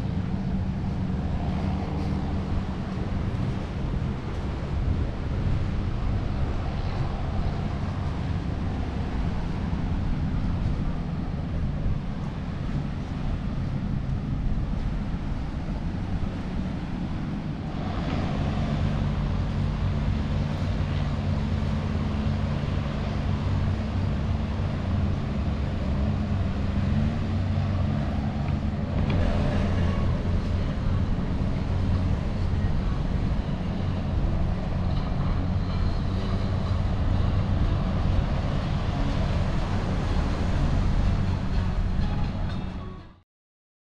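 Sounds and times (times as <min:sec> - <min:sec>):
boat engine droning: 0:00.0 - 0:43.2
steady rush of noise: 0:00.0 - 0:43.2.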